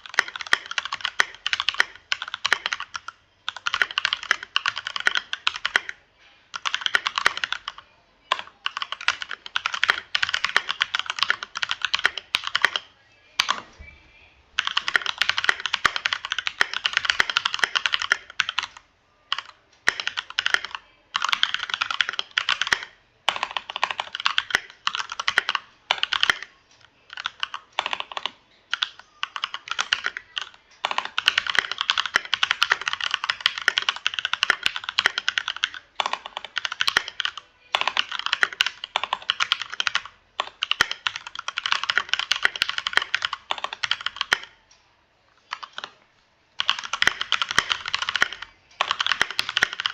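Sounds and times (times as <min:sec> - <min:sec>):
mechanical keyboard typing: 0:00.0 - 0:13.7, 0:14.6 - 0:44.6, 0:45.4 - 0:46.0, 0:46.6 - 0:49.9.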